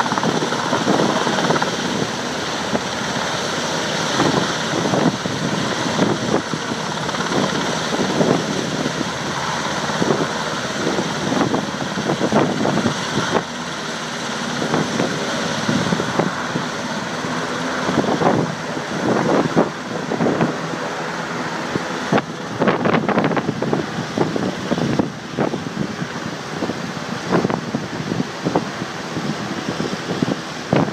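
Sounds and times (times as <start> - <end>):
helicopter rotor and turbine: 0.0 - 30.9
wind buffeting microphone: 0.0 - 30.9.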